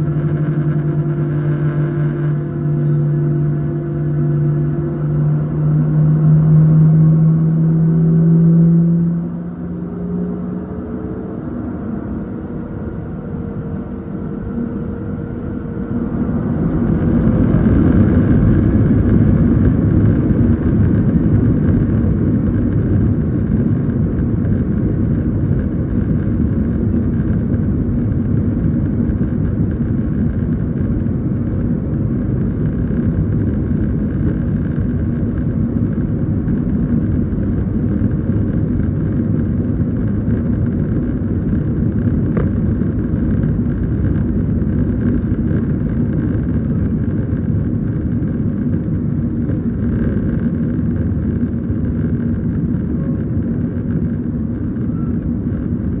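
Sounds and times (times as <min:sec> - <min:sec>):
jet engines roaring in cabin: 0:00.0 - 0:56.0.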